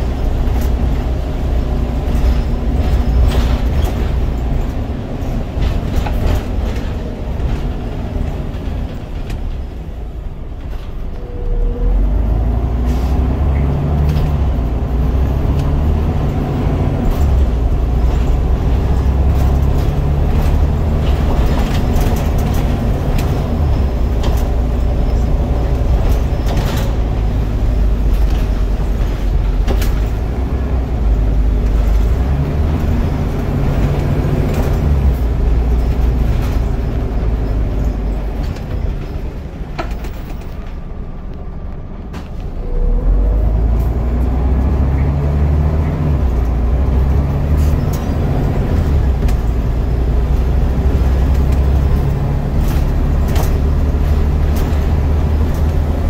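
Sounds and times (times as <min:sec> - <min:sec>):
bus body rattling: 0:00.0 - 0:56.0
bus diesel engine under load: 0:00.0 - 0:56.0.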